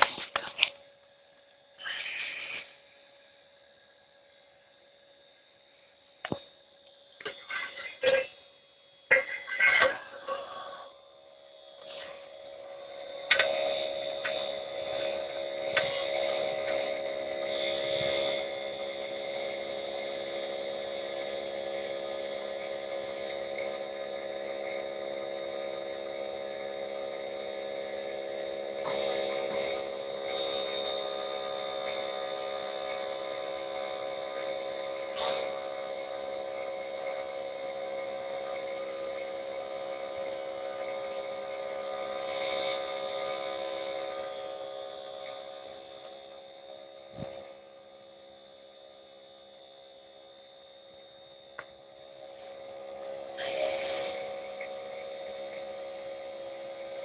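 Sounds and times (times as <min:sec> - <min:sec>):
small electric fan humming: 0:00.0 - 0:57.0.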